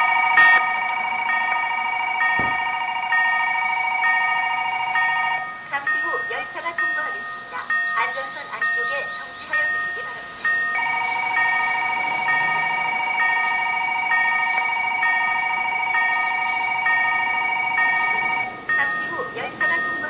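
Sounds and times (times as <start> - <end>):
pulsing warning tone: 0.0 - 5.6, 9.1 - 19.9
level crossing warning bell: 0.0 - 20.0.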